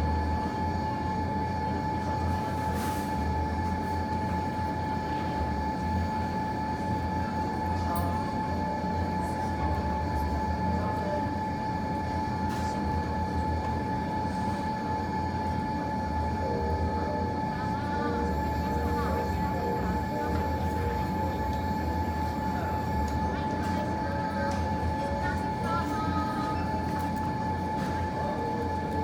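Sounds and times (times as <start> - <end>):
ventilation rumble and hum: 0.0 - 29.0.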